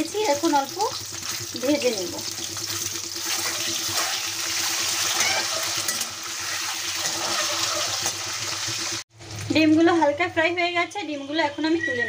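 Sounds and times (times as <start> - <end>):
eggs frying in hot oil: 0.0 - 10.8.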